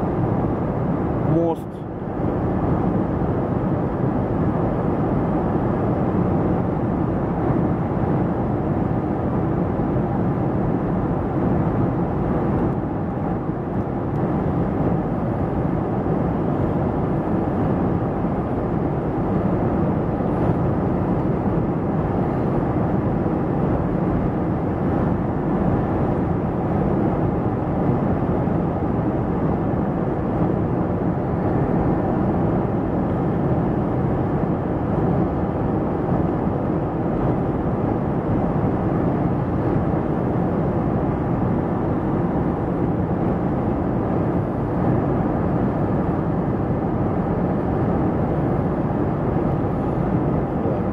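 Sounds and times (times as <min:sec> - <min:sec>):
jet engines humming: 0:00.0 - 0:50.9
rush of airflow: 0:00.0 - 0:50.9.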